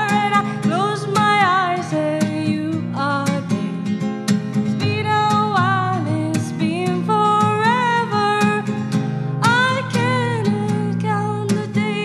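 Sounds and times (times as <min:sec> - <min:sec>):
woman singing slow melody: 0:00.0 - 0:03.9, 0:04.8 - 0:12.0
strummed acoustic guitar: 0:00.0 - 0:12.0.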